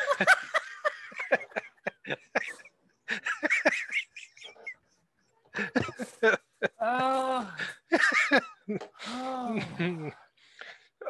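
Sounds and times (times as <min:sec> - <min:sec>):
helpless laughter with gasping: 0:00.0 - 0:10.8.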